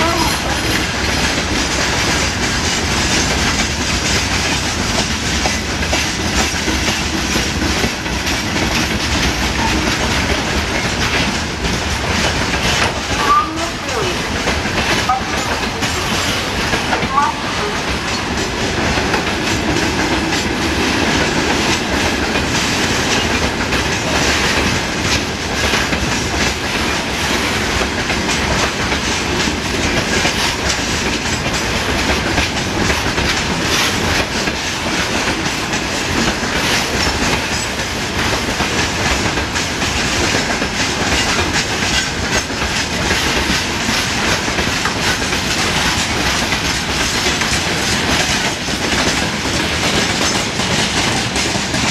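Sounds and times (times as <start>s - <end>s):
train wagons rumbling past: 0.0s - 51.9s
wheels clattering over rail joints: 0.0s - 51.9s.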